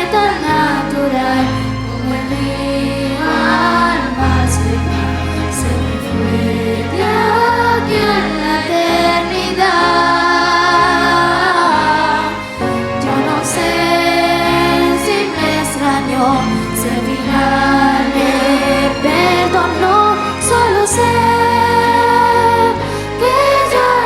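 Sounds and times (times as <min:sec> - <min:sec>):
children's choir singing: 0:00.0 - 0:24.0
instrumental accompaniment: 0:00.0 - 0:24.0.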